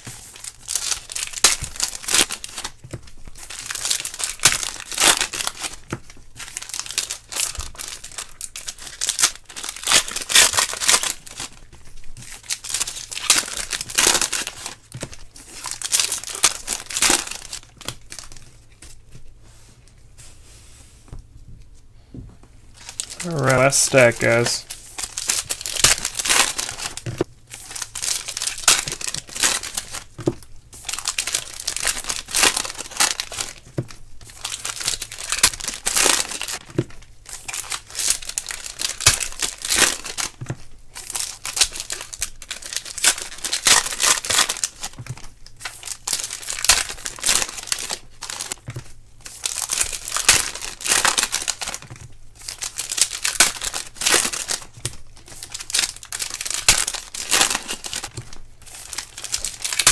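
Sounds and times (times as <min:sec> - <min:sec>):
wrappers crinkling: 0:00.0 - 0:19.2, 0:22.7 - 0:59.9.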